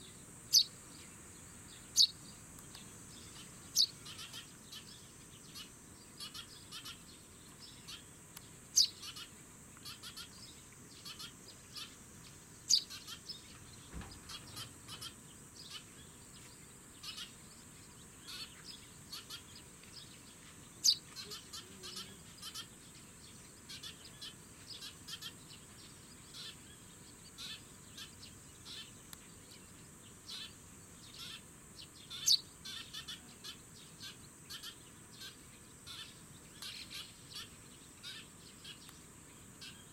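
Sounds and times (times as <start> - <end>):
high insect drone: 0.0 - 39.9
sparrows chirping: 0.0 - 39.9.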